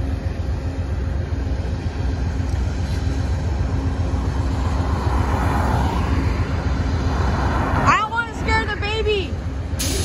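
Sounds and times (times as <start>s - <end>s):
car approaching: 0.0s - 10.0s
diesel locomotives idling: 0.0s - 10.0s.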